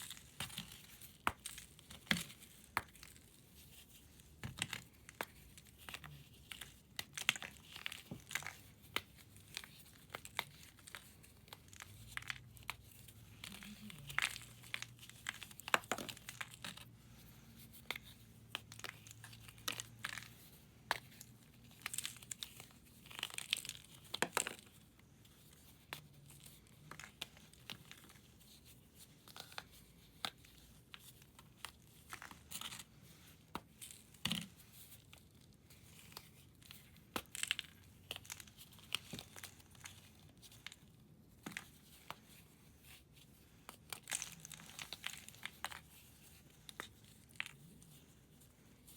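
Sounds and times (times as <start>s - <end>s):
chalk crumbling by hand: 0.0s - 48.9s.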